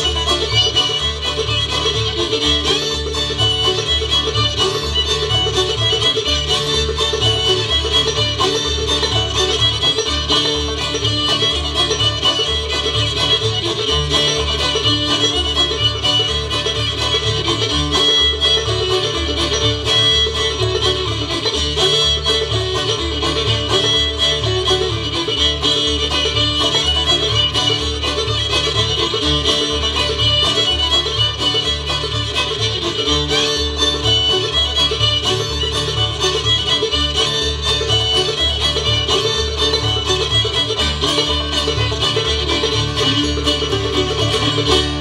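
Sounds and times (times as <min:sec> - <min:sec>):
banjo: 0:00.0 - 0:45.0
bluegrass band playing: 0:00.0 - 0:45.0
fiddle: 0:00.0 - 0:45.0.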